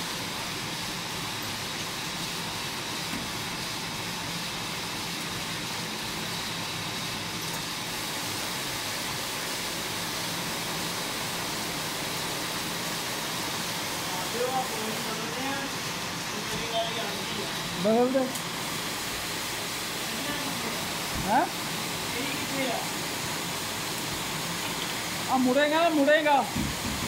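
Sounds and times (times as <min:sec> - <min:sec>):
knitting machinery running: 0:00.0 - 0:27.0.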